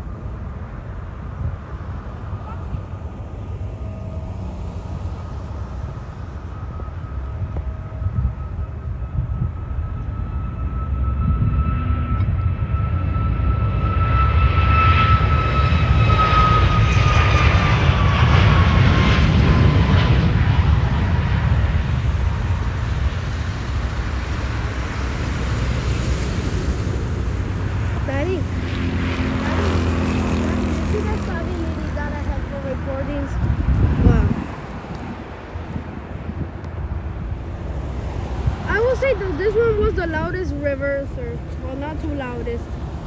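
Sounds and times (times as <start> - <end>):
jet airliner taking off: 0.0 - 43.0.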